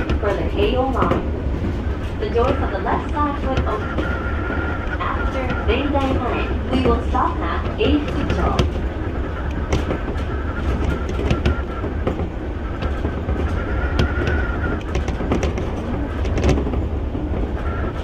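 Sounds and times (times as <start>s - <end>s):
train rumble from inside: 0.0s - 18.0s
wheels clicking over track: 0.0s - 18.0s.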